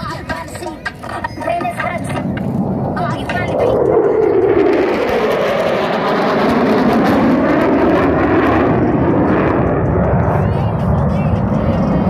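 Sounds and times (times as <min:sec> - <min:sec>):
jet fighter roaring overhead: 0:00.0 - 0:12.0.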